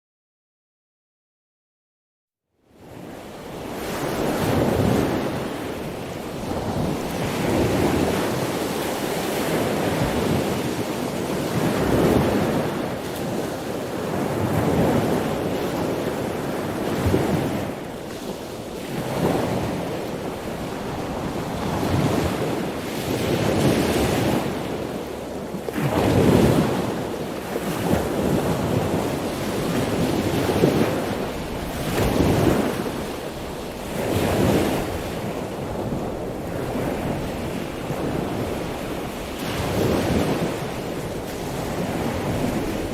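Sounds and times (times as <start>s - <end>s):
ocean waves breaking on shore: 2.7s - 42.9s.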